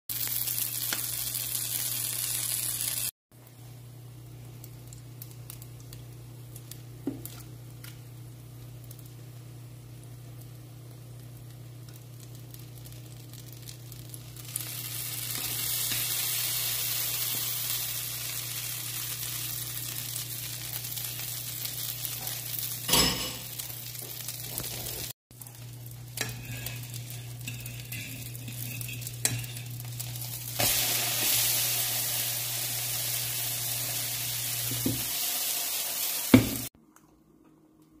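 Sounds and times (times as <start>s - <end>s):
omelette sizzling in a frying pan: 0.1s - 36.8s.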